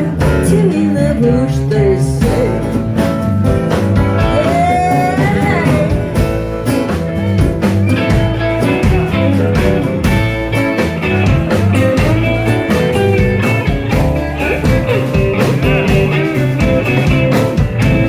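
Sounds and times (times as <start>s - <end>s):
steady drum beat: 0.0s - 0.8s, 1.6s - 18.0s
bass guitar: 0.0s - 18.0s
blues guitar lead with bends: 0.0s - 18.0s.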